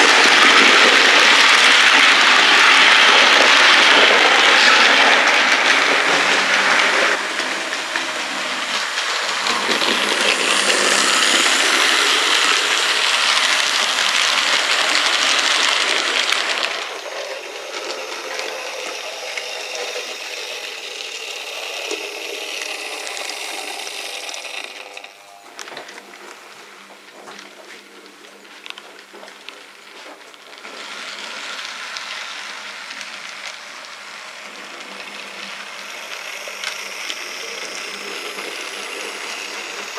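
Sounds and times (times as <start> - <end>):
model train wheels rattling on rails: 0.0 - 39.9.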